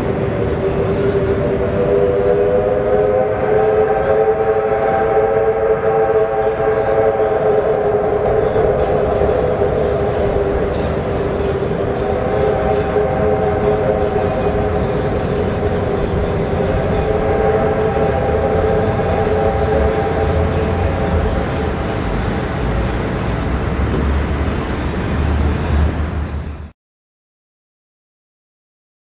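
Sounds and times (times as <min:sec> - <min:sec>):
steam locomotive whistle: 0:00.0 - 0:26.2
train rumbling: 0:00.0 - 0:26.7.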